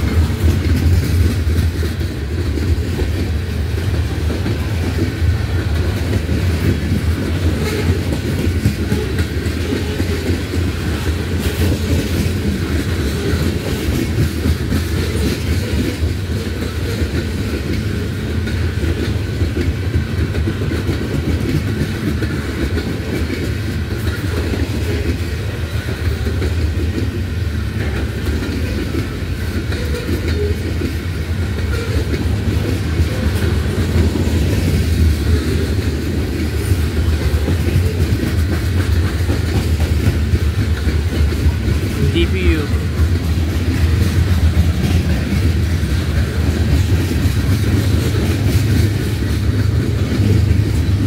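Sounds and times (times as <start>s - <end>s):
freight train wheels rumbling on rail: 0.0s - 51.0s.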